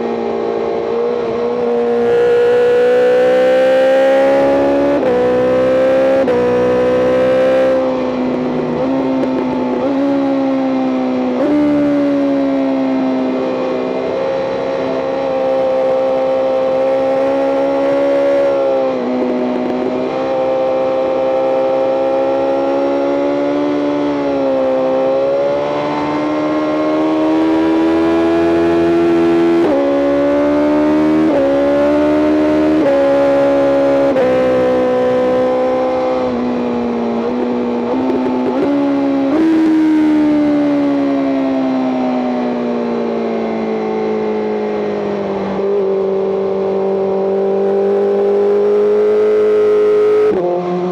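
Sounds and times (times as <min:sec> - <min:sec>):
motorcycle engine at high revs: 0:00.0 - 0:50.9.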